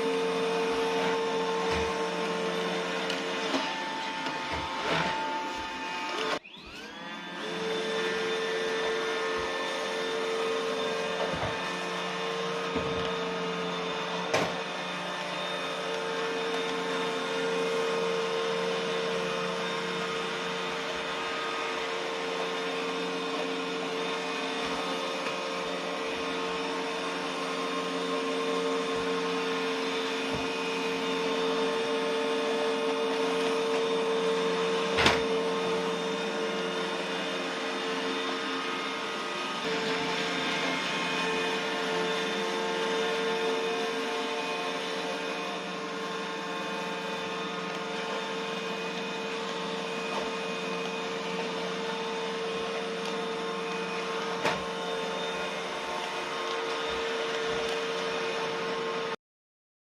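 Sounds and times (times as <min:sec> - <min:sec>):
robot vacuum whirring: 0:00.0 - 0:59.2.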